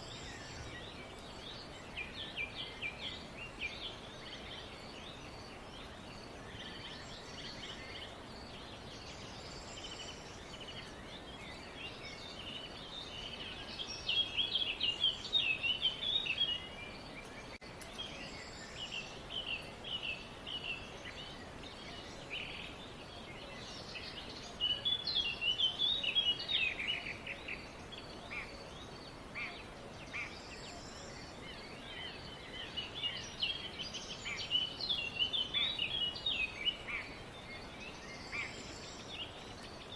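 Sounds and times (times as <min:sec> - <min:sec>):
birds chirping and twittering: 0:00.0 - 0:39.9
faint steady hiss: 0:00.0 - 0:39.9.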